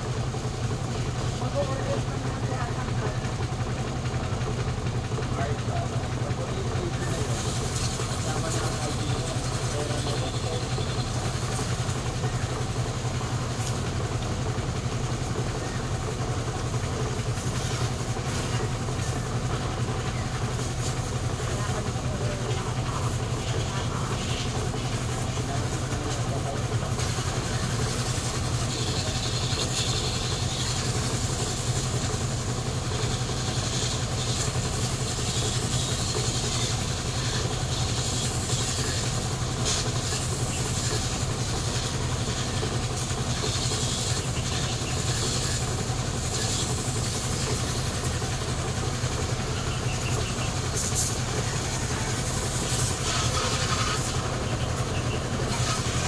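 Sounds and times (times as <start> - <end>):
motor humming: 0.0 - 56.0.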